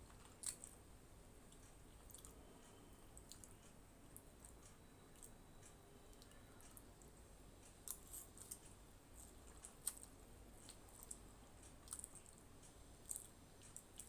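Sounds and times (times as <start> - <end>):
faint chewing: 0.0 - 0.8, 1.5 - 14.0.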